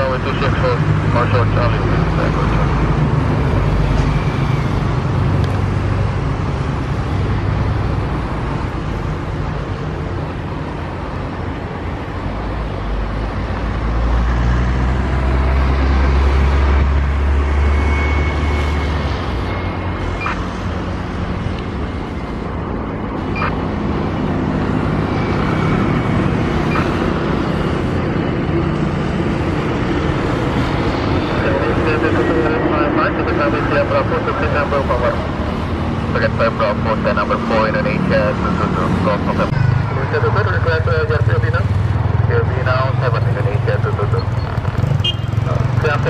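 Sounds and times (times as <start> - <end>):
distant jet engines: 0.0 - 46.0.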